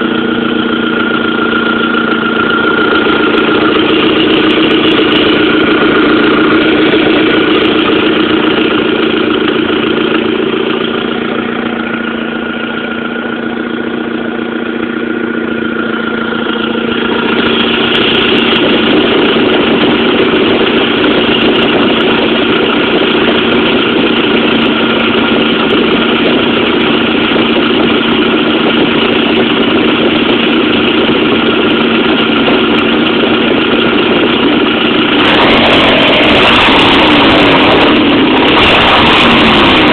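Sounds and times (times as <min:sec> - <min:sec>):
car engine idling with exhaust leak: 0:00.0 - 0:39.9.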